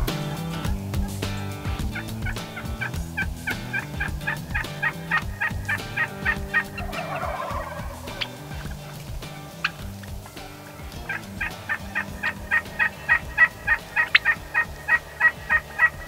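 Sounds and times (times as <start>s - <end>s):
wild turkeys calling: 0.0s - 16.0s.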